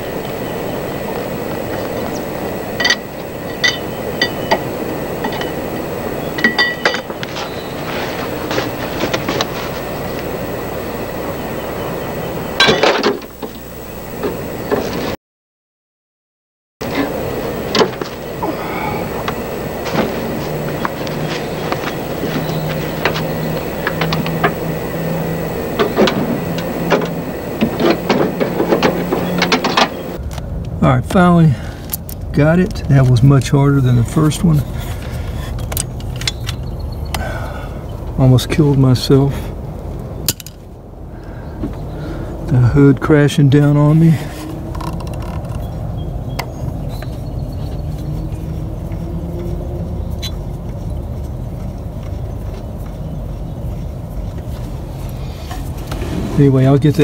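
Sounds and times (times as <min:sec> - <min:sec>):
steady background noise: 0:00.0 - 0:15.2, 0:16.8 - 0:57.0
steady low hum: 0:00.0 - 0:15.2, 0:16.8 - 0:57.0.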